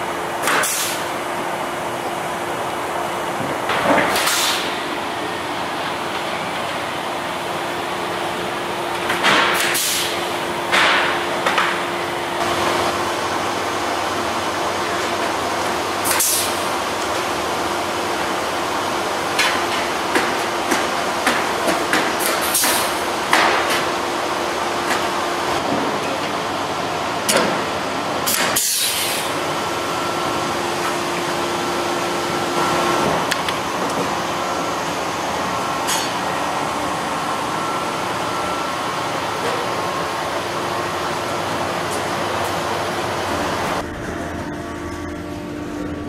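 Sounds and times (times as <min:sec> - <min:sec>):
shop hum: 0:00.0 - 0:46.0.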